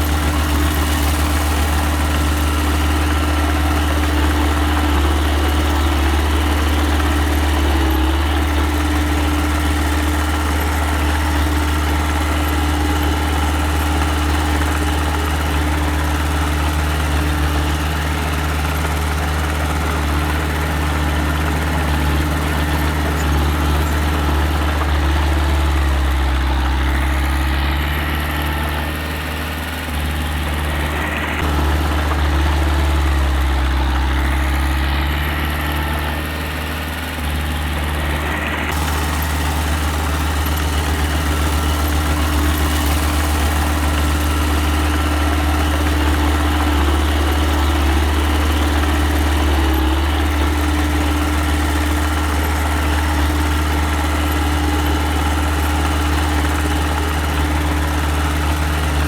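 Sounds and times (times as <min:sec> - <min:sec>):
earthmoving machine engine humming: 0:00.0 - 0:28.5, 0:38.4 - 0:59.0.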